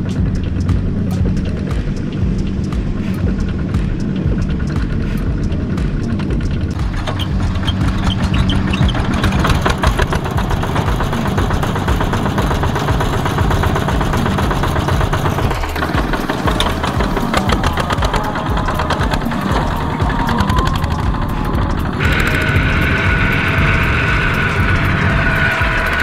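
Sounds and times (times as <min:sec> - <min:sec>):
single-cylinder diesel engines running: 0:00.0 - 0:26.0.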